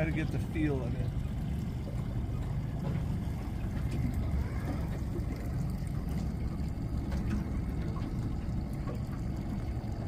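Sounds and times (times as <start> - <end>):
boat motor rumbling: 0.0 - 10.0
water around the hull: 0.0 - 10.0.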